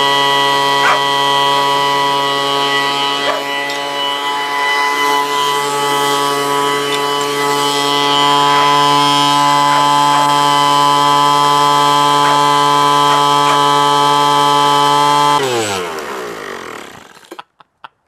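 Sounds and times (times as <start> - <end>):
engine spinning down: 0.0 - 17.5
leaf blower engine running: 0.0 - 17.7.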